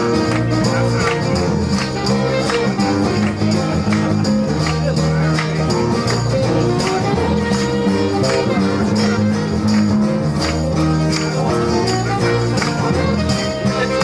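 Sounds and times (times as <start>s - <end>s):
rock band playing live: 0.0s - 14.0s
tambourine: 0.0s - 14.0s.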